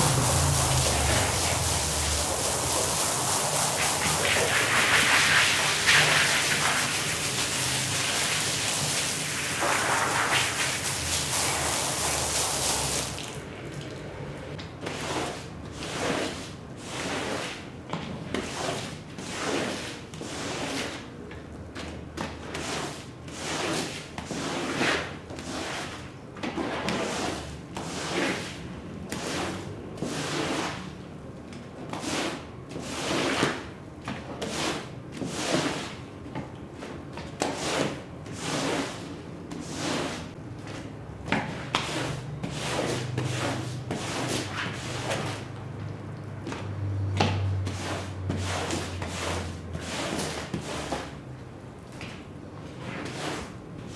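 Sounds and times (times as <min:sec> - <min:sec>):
cleaning tool scraping wet rug: 0:00.0 - 0:13.4, 0:14.8 - 0:17.6, 0:18.3 - 0:21.1, 0:21.8 - 0:31.0, 0:31.9 - 0:36.1, 0:36.8 - 0:45.8, 0:47.2 - 0:51.2, 0:52.7 - 0:53.9.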